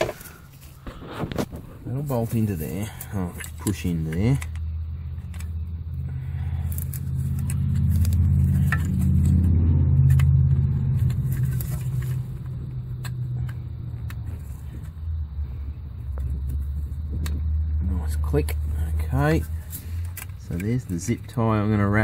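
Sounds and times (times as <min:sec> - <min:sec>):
low engine-like rumble: 0:00.0 - 0:22.0.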